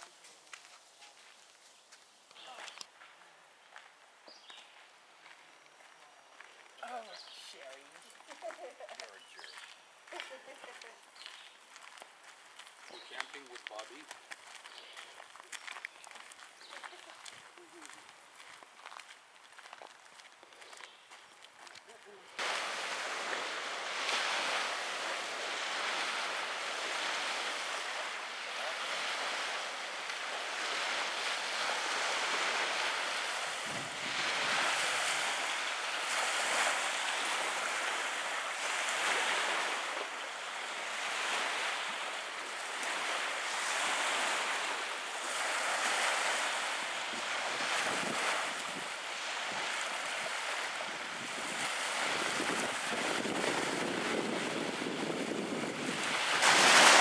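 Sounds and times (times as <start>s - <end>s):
waves lapping on sandy shore: 0.0s - 1.7s, 6.4s - 57.0s.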